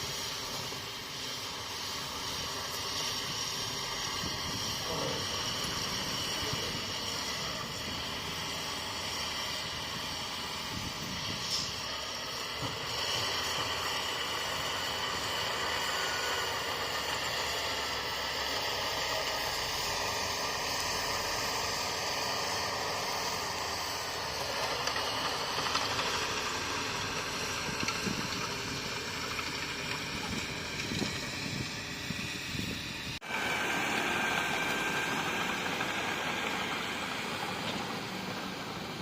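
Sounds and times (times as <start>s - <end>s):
bulldozer diesel engine running: 0.0s - 39.0s
steady high whine: 0.0s - 39.0s.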